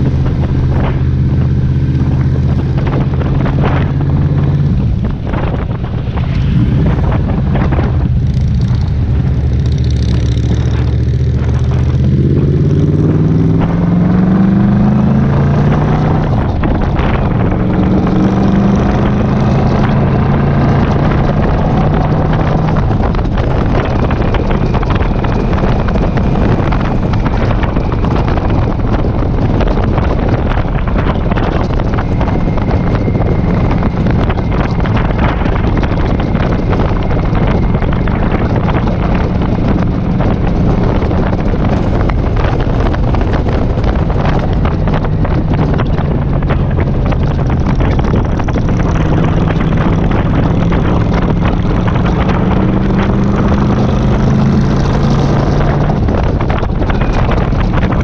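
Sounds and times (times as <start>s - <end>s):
motorcycle engine accelerating: 0.0s - 58.0s
wind on microphone: 0.0s - 58.0s.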